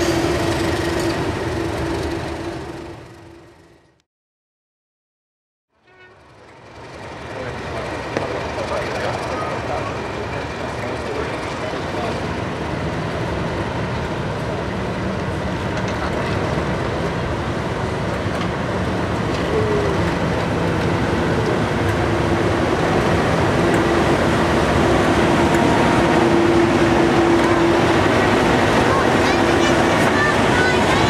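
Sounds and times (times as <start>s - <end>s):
diesel locomotives running past: 0.0s - 4.0s, 5.8s - 31.0s.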